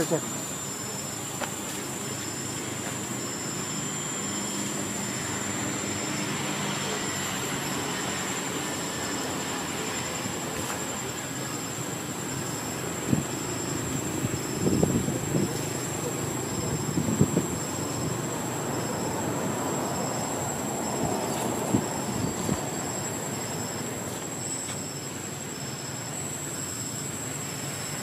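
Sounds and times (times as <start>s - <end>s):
insect chirping: 0.0s - 28.0s
insects whining: 0.0s - 28.0s.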